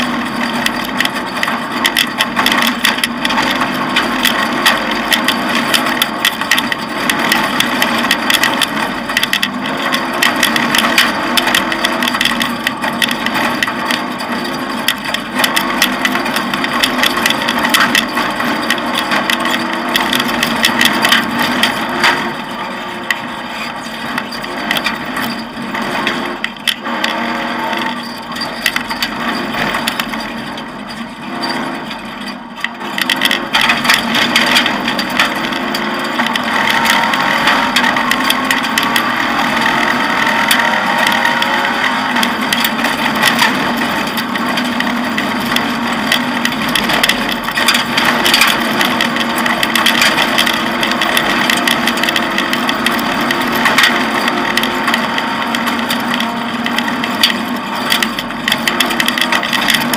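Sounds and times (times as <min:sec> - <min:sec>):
rally car engine pulling through gears: 0:00.0 - 0:59.9.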